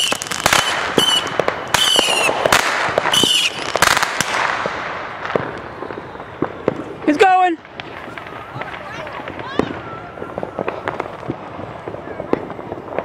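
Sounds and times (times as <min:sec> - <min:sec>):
firework whistles: 0:00.0 - 0:13.0
fireworks bangs and crackles: 0:00.0 - 0:13.0.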